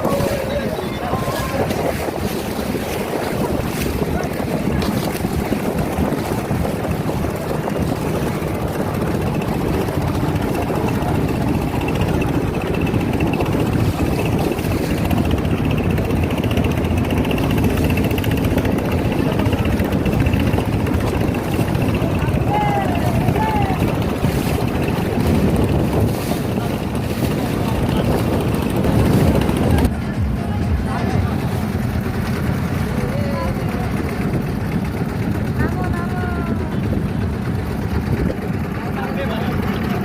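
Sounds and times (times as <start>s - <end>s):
boat motor droning: 0.0s - 40.0s
water rushing past hull: 0.0s - 40.0s
wind buffeting microphone: 0.0s - 40.0s.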